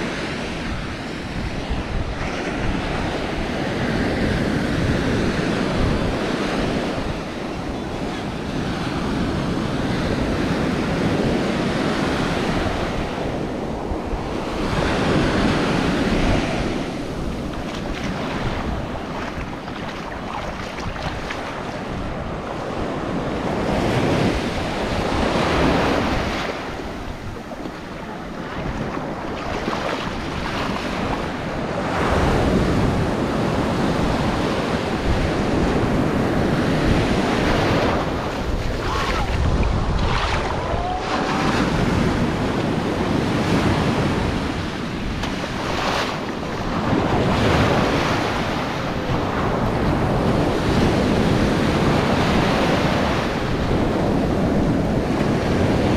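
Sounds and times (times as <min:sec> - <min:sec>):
ocean surf breaking: 0:00.0 - 0:55.9
wind buffeting microphone: 0:00.0 - 0:55.9.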